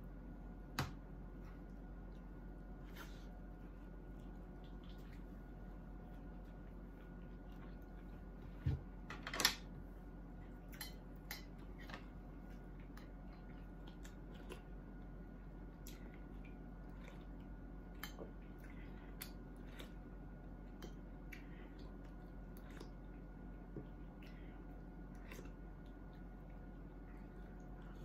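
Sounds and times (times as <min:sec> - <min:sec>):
low hum: 0:00.0 - 0:28.0
soft chewing: 0:00.9 - 0:09.1, 0:09.8 - 0:28.0.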